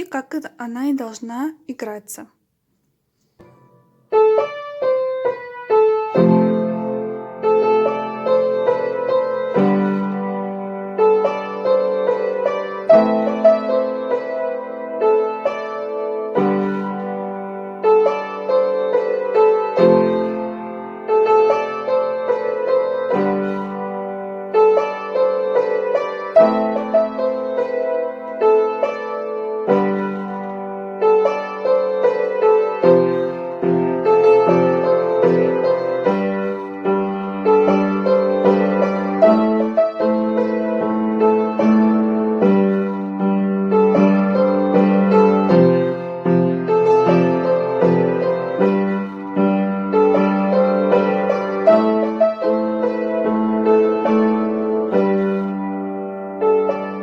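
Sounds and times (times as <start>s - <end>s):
piano melody: 3.4s - 57.0s.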